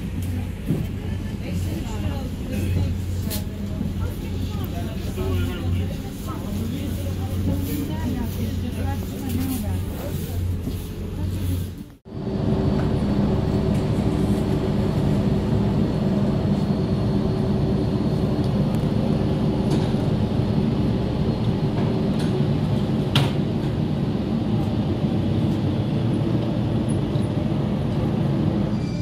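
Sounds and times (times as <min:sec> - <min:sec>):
ship engines droning: 0:00.0 - 0:29.0.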